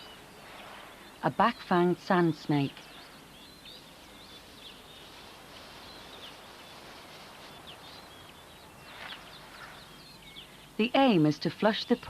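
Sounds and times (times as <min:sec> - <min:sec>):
steady hiss: 0:00.0 - 0:10.9
small birds chirping: 0:00.0 - 0:12.0.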